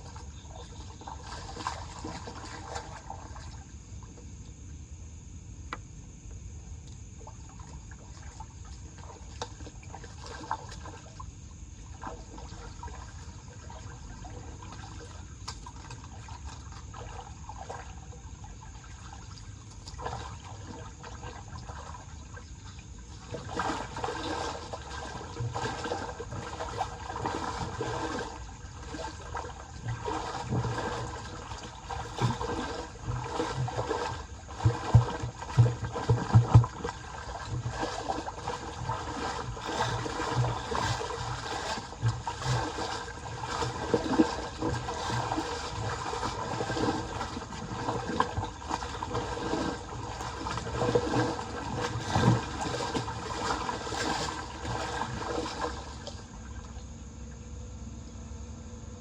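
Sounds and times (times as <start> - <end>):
floodwater rushing down drain: 0.0 - 3.6, 11.9 - 56.8.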